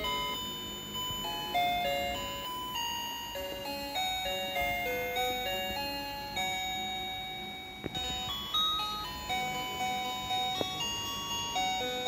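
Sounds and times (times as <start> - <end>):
slow chime-like melody: 0.0 - 12.0.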